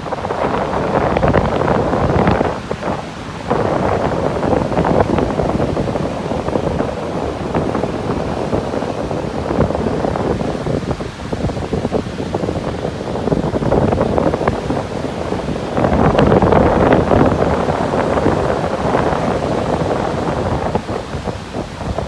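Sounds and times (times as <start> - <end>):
surf breaking on a beach: 0.0 - 22.0
wind buffeting microphone: 0.0 - 22.0.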